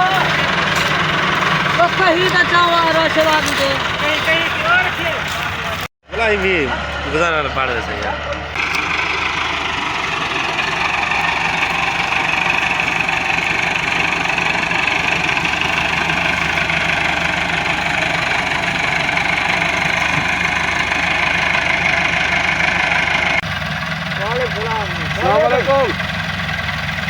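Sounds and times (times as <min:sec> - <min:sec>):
diesel tractor engine droning: 0:00.0 - 0:27.0.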